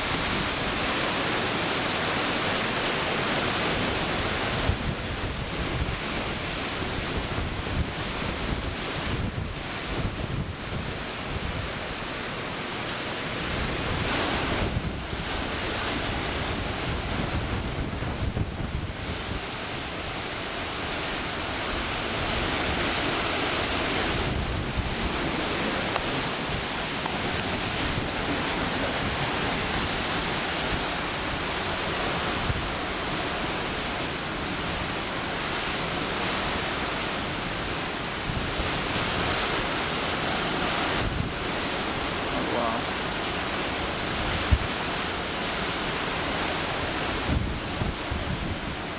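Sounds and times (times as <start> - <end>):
strong wind gusting: 0.0 - 48.9
wind buffeting microphone: 3.6 - 48.9.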